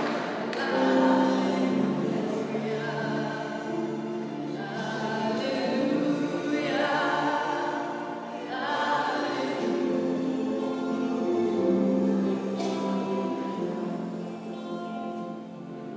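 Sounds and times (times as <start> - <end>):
voices singing a hymn: 0.0 - 15.9.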